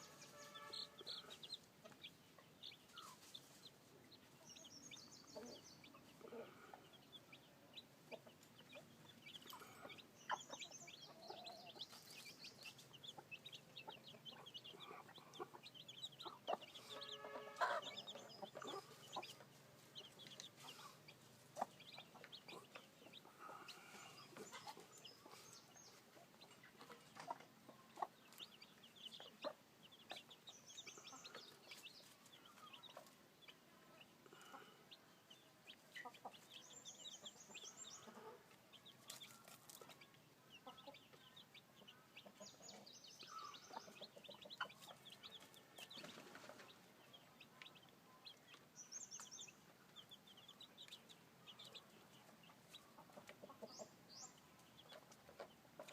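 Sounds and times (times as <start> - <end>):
chicks peeping: 0.0 - 55.9.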